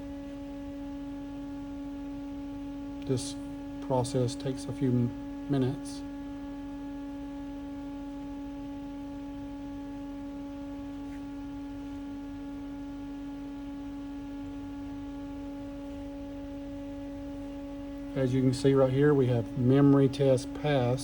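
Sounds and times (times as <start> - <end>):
machine electrical hum: 0.0 - 21.0.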